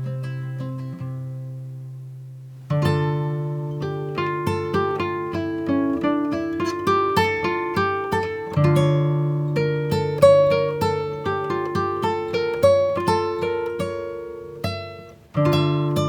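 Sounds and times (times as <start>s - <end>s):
plucked acoustic guitar: 0.0s - 16.0s.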